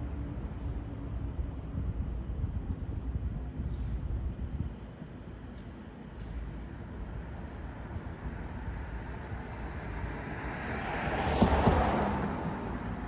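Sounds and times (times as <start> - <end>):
low hum of traffic: 0.0 - 13.0.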